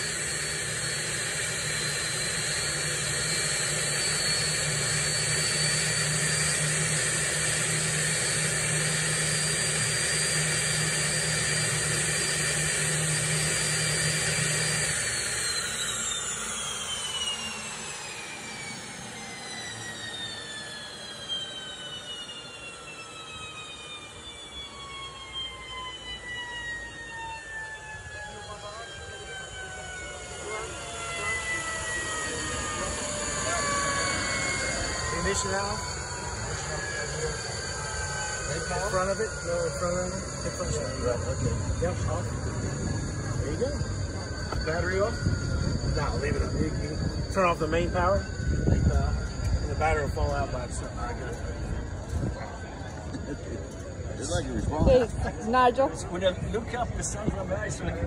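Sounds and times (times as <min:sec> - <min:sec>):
turbine engine whining: 0:00.0 - 0:58.0.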